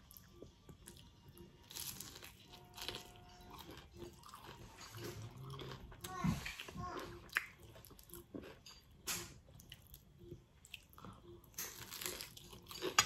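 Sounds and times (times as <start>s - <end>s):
crunching and chewing fried food: 0.0s - 13.0s.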